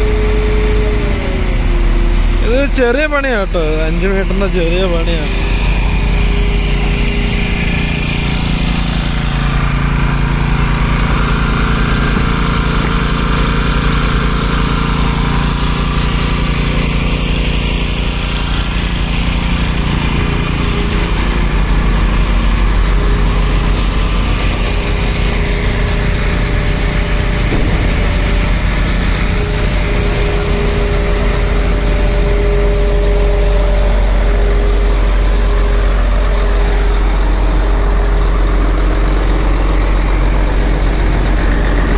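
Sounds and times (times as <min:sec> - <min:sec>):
diesel engine under load: 0:00.0 - 0:41.9
mid-pitched pump whine: 0:00.0 - 0:41.9.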